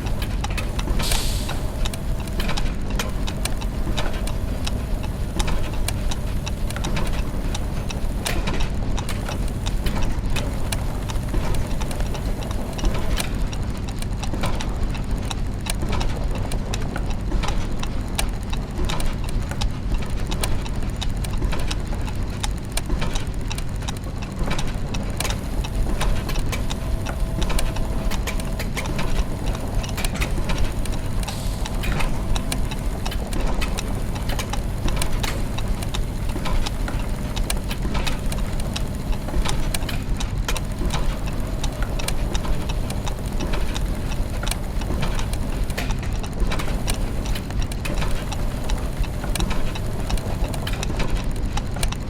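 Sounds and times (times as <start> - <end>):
low mechanical rumble: 0.0 - 52.0
ticking clicking gears: 0.0 - 52.0.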